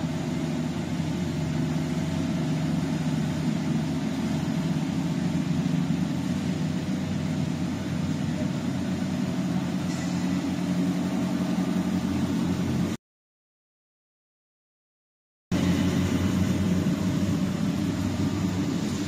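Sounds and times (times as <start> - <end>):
frying machine mechanical drone: 0.0 - 13.0, 15.5 - 19.0.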